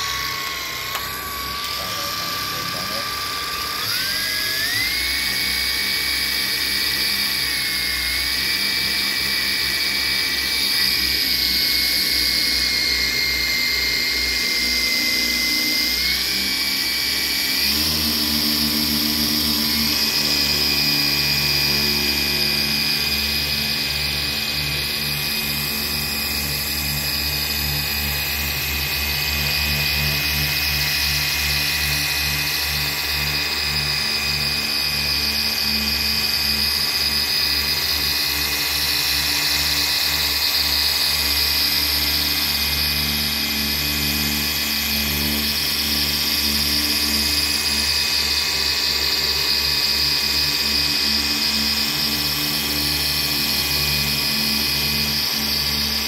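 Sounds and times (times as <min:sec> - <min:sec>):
polisher motor whine: 0:00.0 - 0:56.0.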